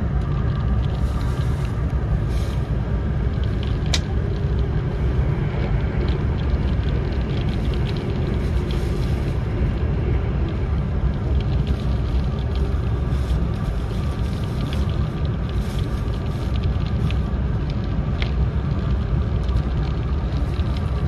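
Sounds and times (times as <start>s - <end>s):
train rumble inside cabin: 0.0s - 21.0s.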